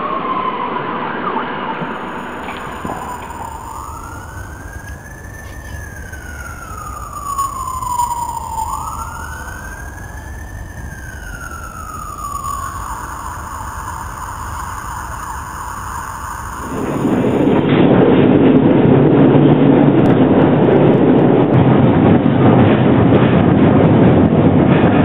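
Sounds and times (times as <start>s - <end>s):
siren wailing: 0.0s - 21.0s
low rumble: 1.4s - 25.0s.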